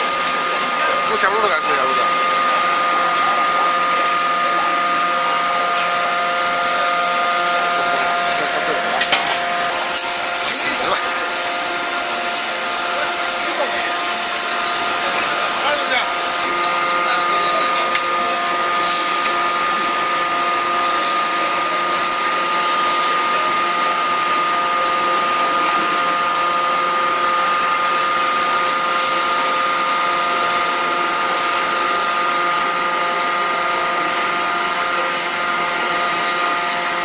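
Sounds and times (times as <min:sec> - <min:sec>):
industrial machinery whine and hum: 0:00.0 - 0:37.0.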